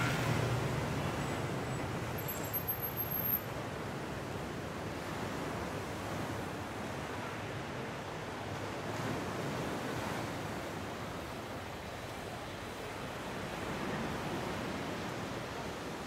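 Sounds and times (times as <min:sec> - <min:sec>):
sea surf rushing: 0:00.0 - 0:02.1, 0:03.8 - 0:16.0.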